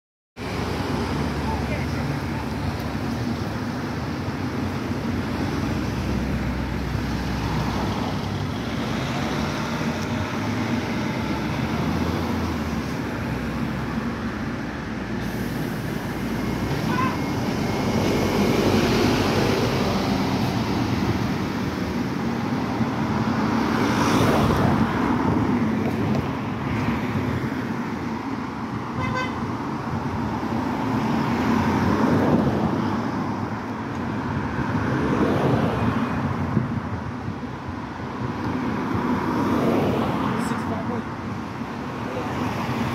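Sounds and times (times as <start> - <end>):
bus driving by and pulling away: 0.4 - 42.9
road traffic passing: 0.4 - 42.9.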